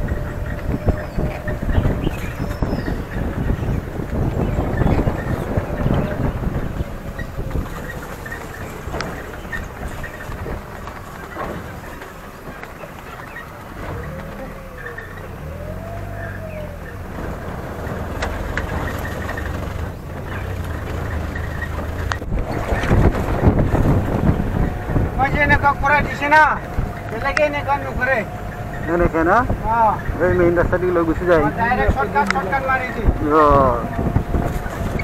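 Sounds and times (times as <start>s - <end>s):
car engine driving on dirt track: 0.0s - 35.0s
vehicle jolts and rattles: 0.0s - 35.0s.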